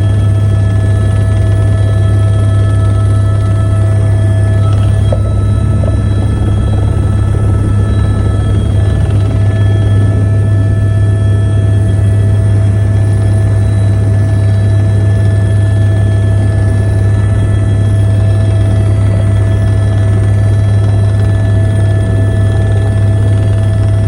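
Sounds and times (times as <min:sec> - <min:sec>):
helicopter engine and rotor drone: 0:00.0 - 0:24.0
high whine: 0:00.0 - 0:24.0.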